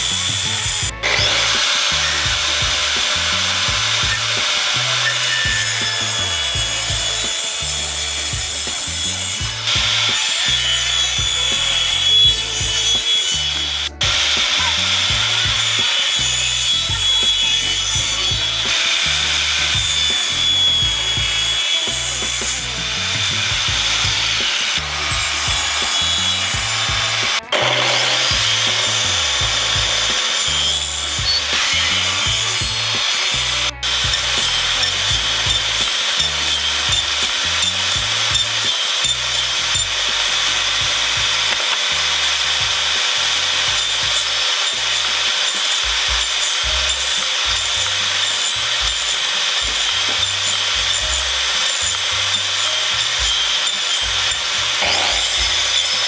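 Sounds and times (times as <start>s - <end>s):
table saw cutting wood: 0.0s - 56.0s.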